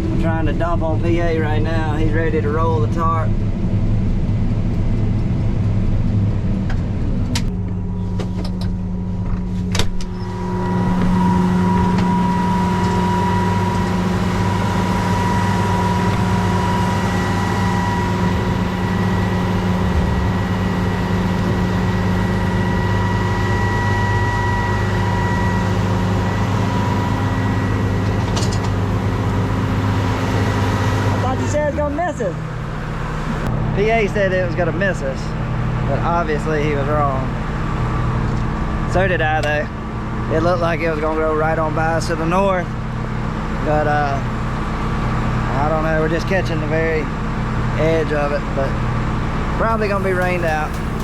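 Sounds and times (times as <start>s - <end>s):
high whine: 0.0s - 44.2s, 49.3s - 51.0s
combine harvester engine humming: 0.0s - 48.0s, 48.8s - 51.0s.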